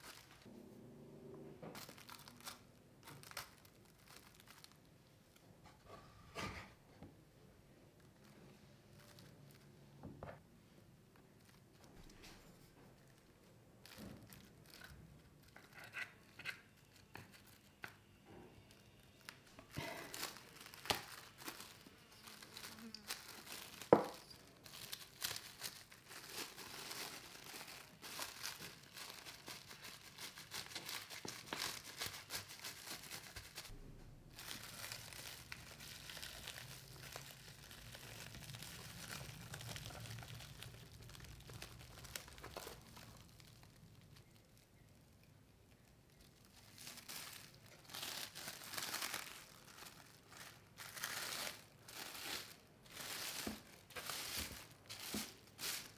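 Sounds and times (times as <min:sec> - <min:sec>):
cling wrap crinkling: 0:00.0 - 0:00.5, 0:01.8 - 0:05.0, 0:07.9 - 0:10.4, 0:11.2 - 0:55.9.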